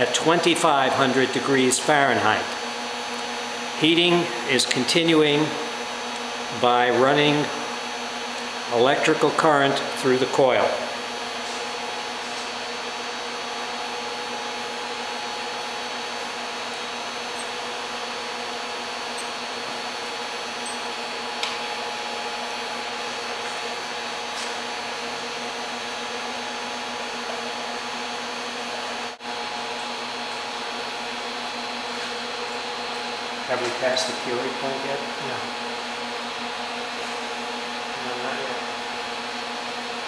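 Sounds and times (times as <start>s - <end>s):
induction heater humming: 0.0s - 40.0s.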